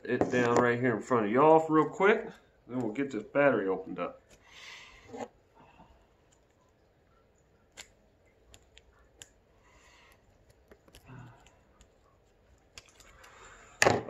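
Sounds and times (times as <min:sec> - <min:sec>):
soft crinkling: 0:00.1 - 0:13.8.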